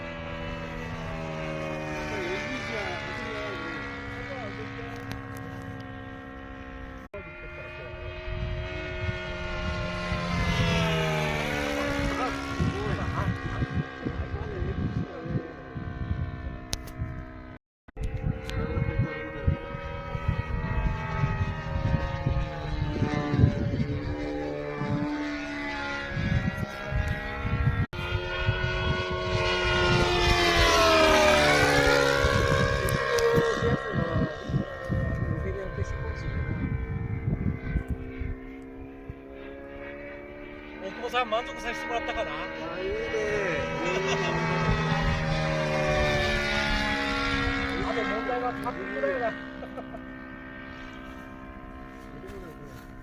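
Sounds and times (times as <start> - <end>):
model aircraft engine whine: 0.0 - 53.0
wind rumbling on microphone: 0.0 - 53.0.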